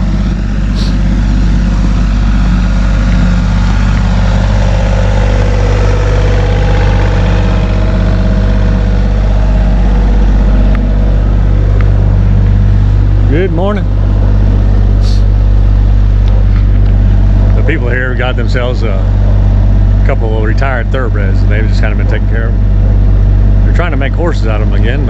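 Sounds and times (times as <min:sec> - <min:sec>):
diesel excavator engine idling: 0:00.0 - 0:25.0.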